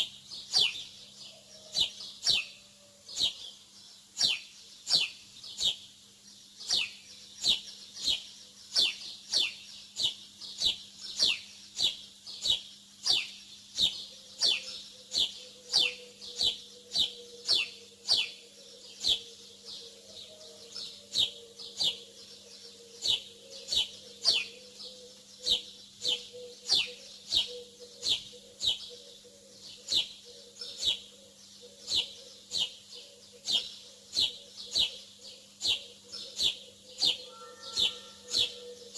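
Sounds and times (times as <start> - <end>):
small bird chirping: 0.0 - 38.9.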